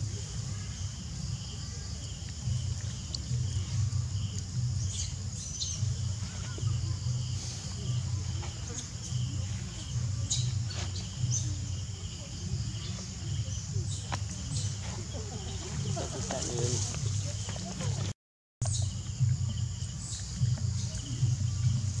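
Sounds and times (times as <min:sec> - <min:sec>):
continuous low rumble: 0:00.0 - 0:22.0
insects droning: 0:00.0 - 0:22.0.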